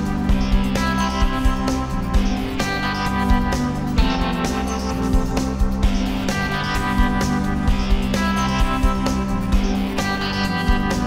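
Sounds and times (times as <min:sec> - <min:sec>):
guitar: 0:00.0 - 0:11.0
steady low beat: 0:00.0 - 0:11.0.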